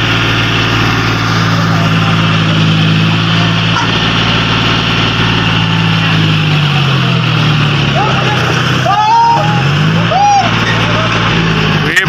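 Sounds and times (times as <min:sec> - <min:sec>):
tractor diesel engine running hard: 0:00.0 - 0:12.0.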